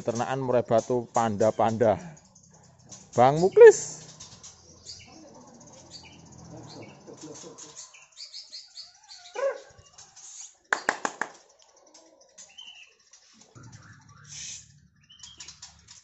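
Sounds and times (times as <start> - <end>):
sharp bird chattering: 0.0 - 15.9
birds chirping and whistling: 0.0 - 16.0.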